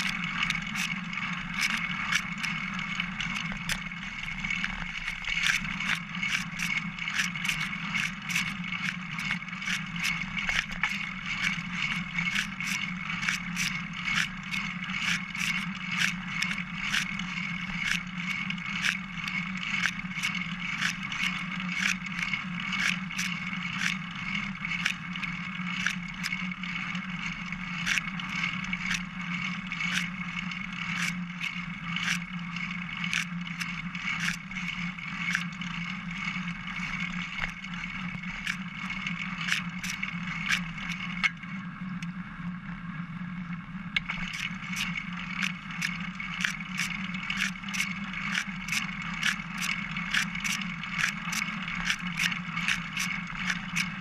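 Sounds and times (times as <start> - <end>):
bicycle frame clicks and rattles: 0.0 - 41.4, 44.0 - 54.0
bicycle tyres rolling hum: 0.0 - 54.0.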